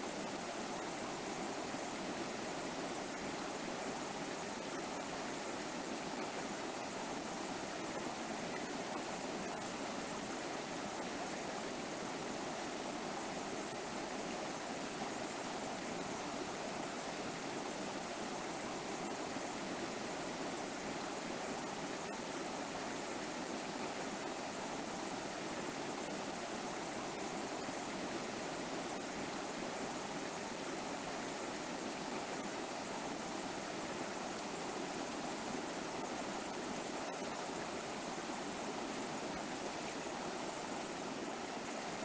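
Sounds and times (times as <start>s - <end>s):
river flowing over rocks: 0.0s - 42.0s.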